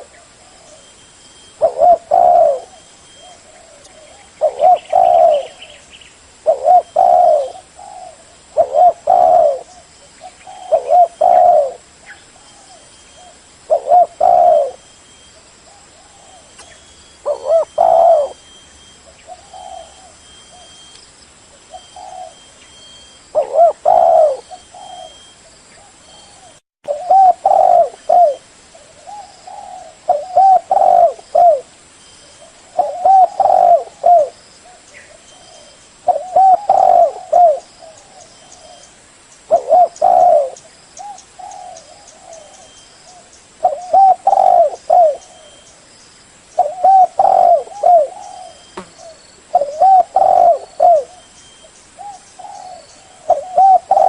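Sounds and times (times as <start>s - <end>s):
dove cooing: 0.0s - 5.8s, 6.4s - 20.9s, 21.6s - 38.9s, 39.5s - 45.7s, 46.6s - 54.0s.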